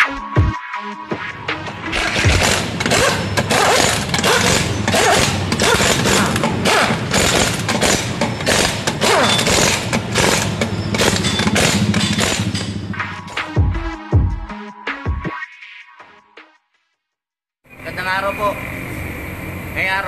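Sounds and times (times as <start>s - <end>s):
electronic music with thumping hits: 0.0s - 16.9s.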